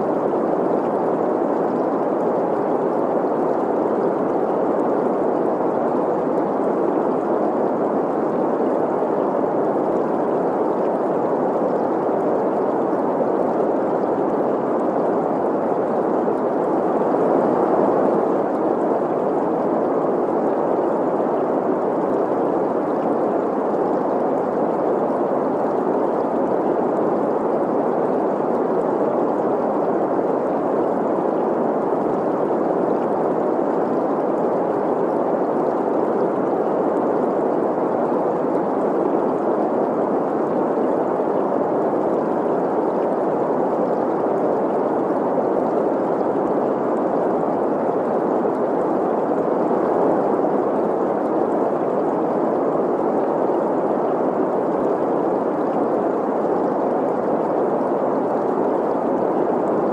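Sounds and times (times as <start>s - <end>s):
flowing stream: 0.0s - 59.9s.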